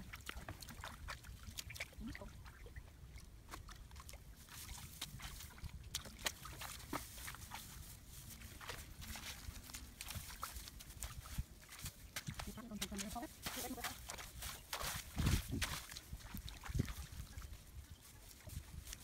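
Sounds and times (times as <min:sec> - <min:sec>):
footsteps through grass and mud: 0:00.0 - 0:19.0.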